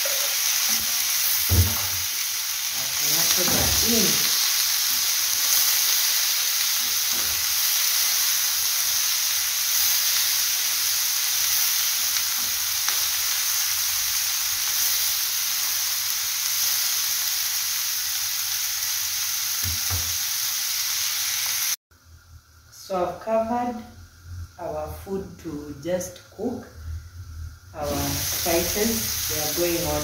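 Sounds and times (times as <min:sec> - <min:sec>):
tomatoes sizzling in a pan: 0:00.0 - 0:30.0.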